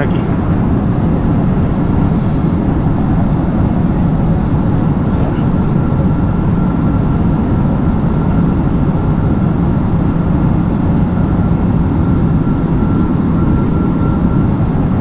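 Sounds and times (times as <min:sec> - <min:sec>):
jet engine rumble and rushing air: 0:00.0 - 0:15.0.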